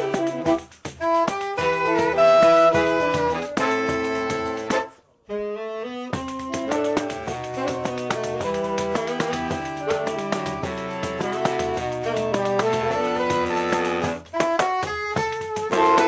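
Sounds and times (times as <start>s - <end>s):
percussion strikes: 0.0s - 5.0s, 6.1s - 16.0s
saxophone quartet: 0.0s - 16.0s.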